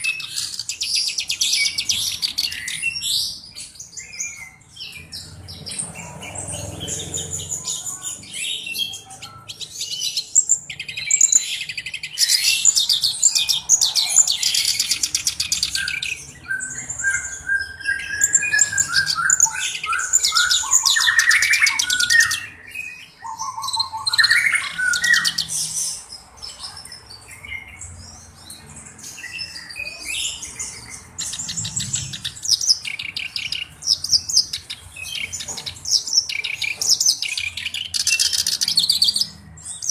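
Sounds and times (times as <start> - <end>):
reed warbler singing: 0.0 - 39.9.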